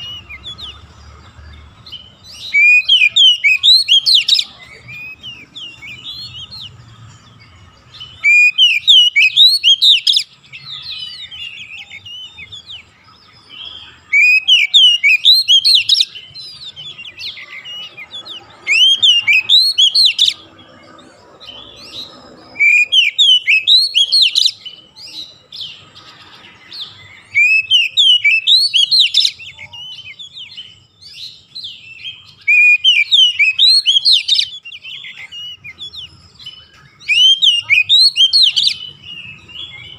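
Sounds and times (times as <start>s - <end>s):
soft bird twittering: 0.0s - 39.9s.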